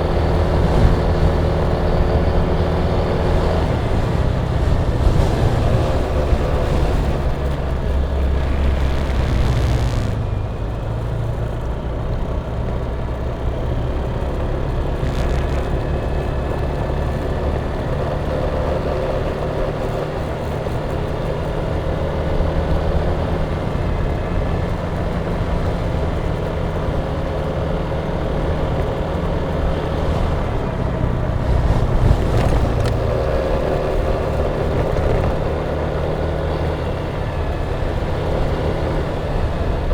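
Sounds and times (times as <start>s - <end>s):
road and wind rumble: 0.0s - 39.9s
scooter engine running: 0.0s - 39.9s.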